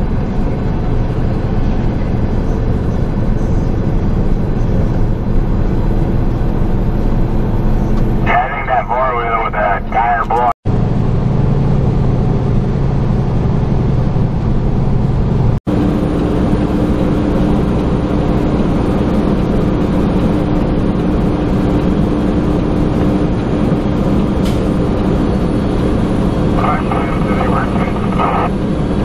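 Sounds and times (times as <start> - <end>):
truck engine and road noise: 0.0 - 29.0.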